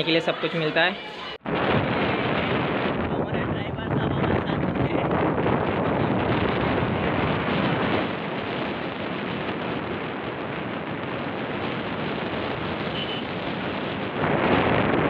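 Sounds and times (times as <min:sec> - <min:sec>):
wind rushing over microphone: 0:01.3 - 0:15.0.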